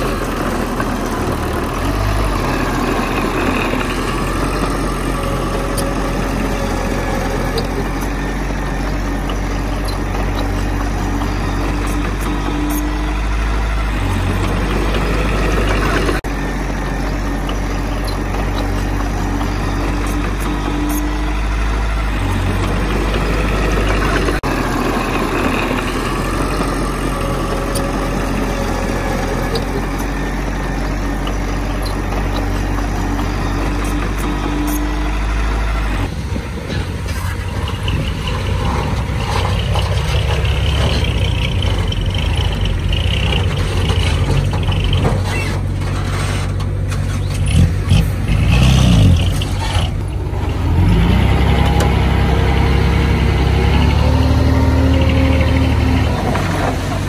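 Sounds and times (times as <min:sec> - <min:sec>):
engine revving: 0:00.0 - 0:57.0
heavy diesel engines running: 0:00.0 - 0:57.0.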